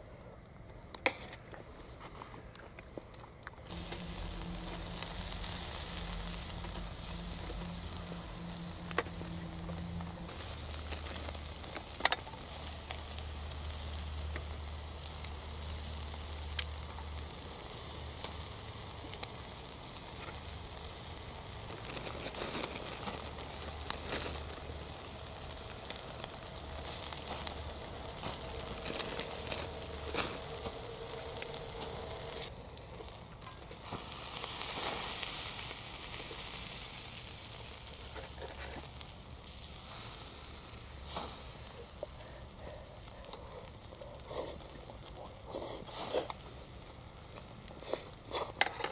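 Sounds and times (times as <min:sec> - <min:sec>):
wood fire crackling and popping: 0:03.6 - 0:48.9
fire hissing: 0:03.7 - 0:48.9.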